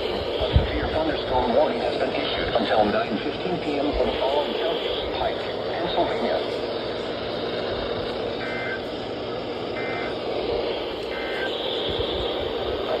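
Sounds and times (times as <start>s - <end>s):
radio hiss: 0.0s - 13.0s
two-tone data bursts: 0.0s - 13.0s.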